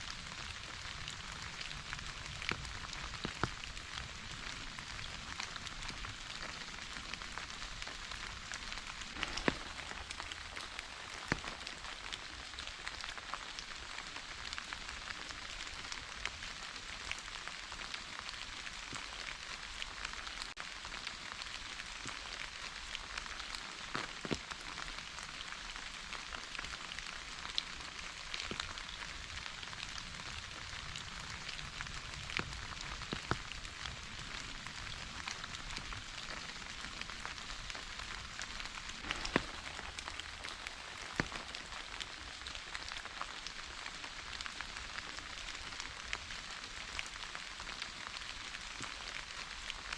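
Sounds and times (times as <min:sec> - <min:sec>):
raindrops ticking: 0:00.0 - 0:49.9
steady rain hiss: 0:00.0 - 0:49.9.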